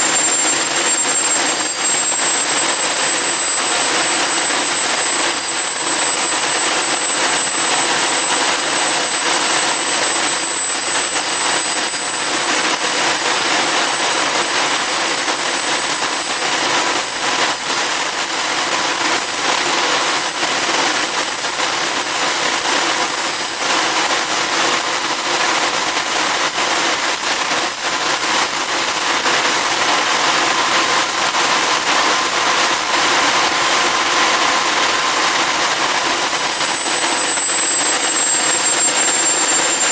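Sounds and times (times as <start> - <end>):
high-pitched engine whine: 0.0 - 39.9
turbojet engine rushing: 0.0 - 39.9.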